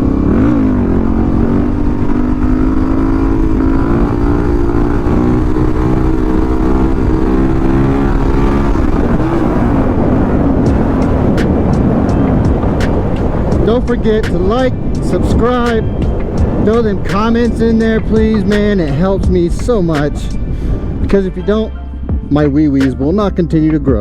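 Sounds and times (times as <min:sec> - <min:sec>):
motorcycle engine cruising: 0:00.0 - 0:24.0
wind rumble on microphone: 0:00.0 - 0:24.0.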